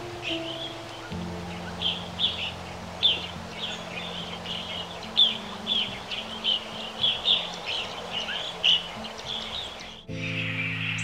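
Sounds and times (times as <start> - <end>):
bird chirping: 0.0 - 11.0
low held music notes: 0.0 - 11.0.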